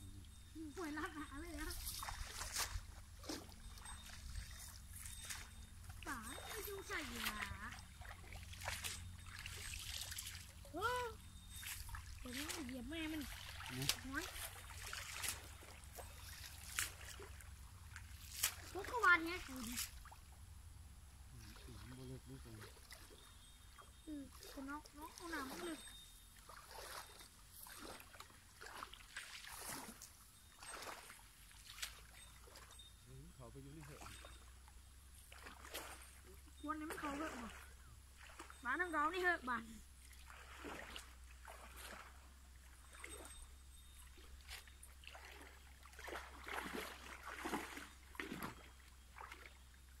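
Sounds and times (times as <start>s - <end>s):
pond water sloshing: 0.0s - 50.0s.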